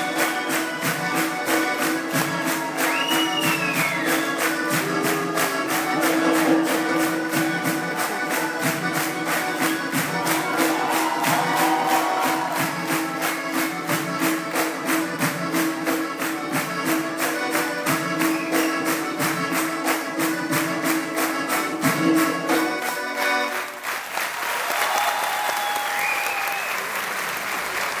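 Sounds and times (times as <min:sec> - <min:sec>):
audience applauding: 0:00.0 - 0:20.2, 0:22.6 - 0:28.0
lively folk dance music: 0:00.0 - 0:24.4.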